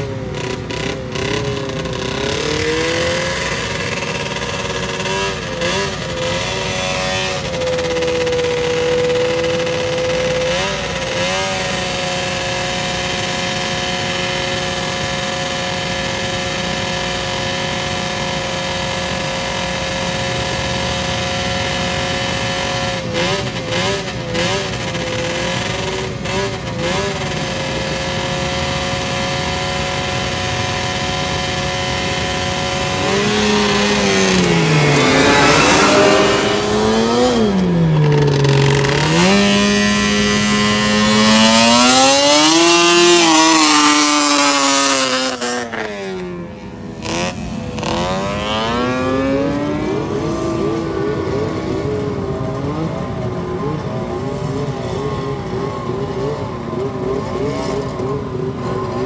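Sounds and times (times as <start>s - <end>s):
racing atv engine revving: 0.0s - 59.0s.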